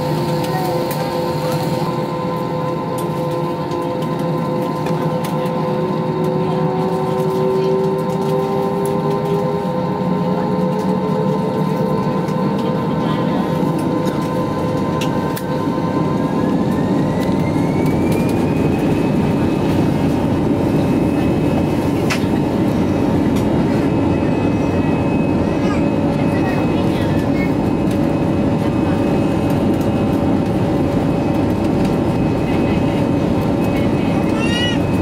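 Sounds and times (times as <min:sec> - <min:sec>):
jet engines rumbling and whining: 0:00.0 - 0:35.0.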